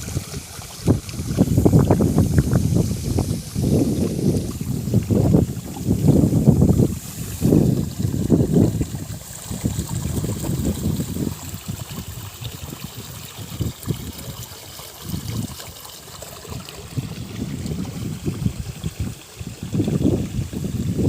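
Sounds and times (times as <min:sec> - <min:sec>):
trickle of running water: 0:00.0 - 0:21.0
wind buffeting microphone: 0:00.0 - 0:21.0.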